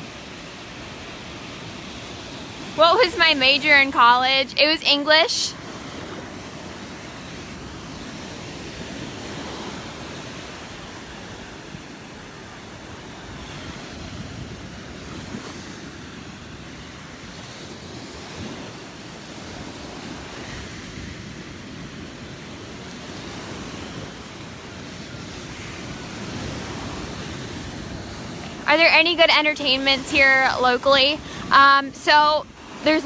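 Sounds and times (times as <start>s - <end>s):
small waves washing onto beach: 0.0s - 33.0s
wind on microphone: 0.0s - 33.0s.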